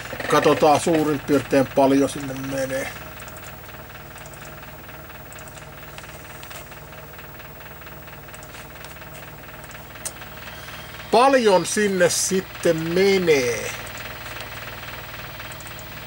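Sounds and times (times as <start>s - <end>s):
electronic equipment humming: 0.0s - 16.0s.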